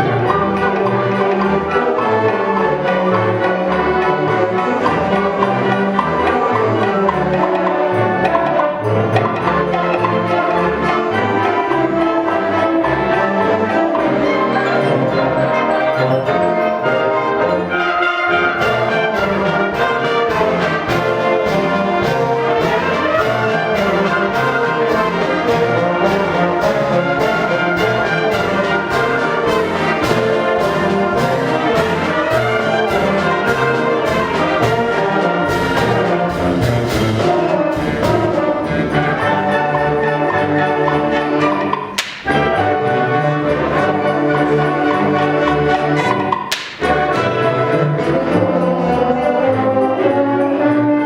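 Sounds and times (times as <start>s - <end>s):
concert band playing: 0.0s - 51.0s
percussion beat of crisp strokes: 0.0s - 51.0s.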